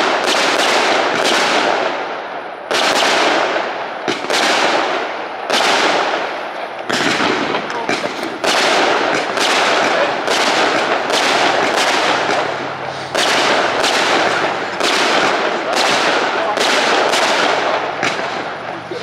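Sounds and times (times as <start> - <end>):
fireworks crackling: 0.0 - 19.0
fireworks shells bursting: 2.8 - 19.0.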